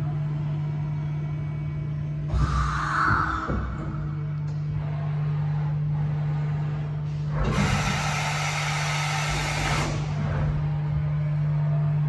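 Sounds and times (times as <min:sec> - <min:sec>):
machine low hum: 0:00.0 - 0:12.0.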